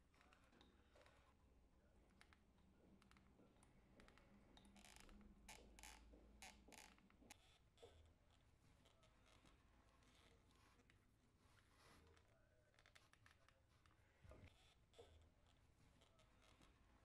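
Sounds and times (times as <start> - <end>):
faint low room hum: 0.0 - 17.0.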